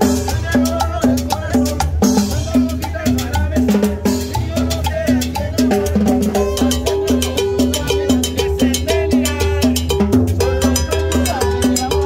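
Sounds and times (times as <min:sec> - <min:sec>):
bass line: 0:00.0 - 0:12.0
hand percussion: 0:00.0 - 0:12.0
salsa band playing: 0:00.0 - 0:12.0.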